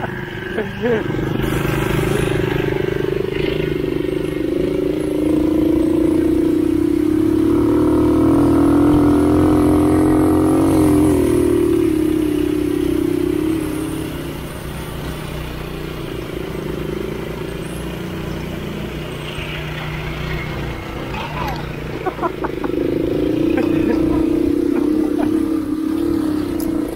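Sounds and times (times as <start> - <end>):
mini bike engine running: 0.0 - 26.9.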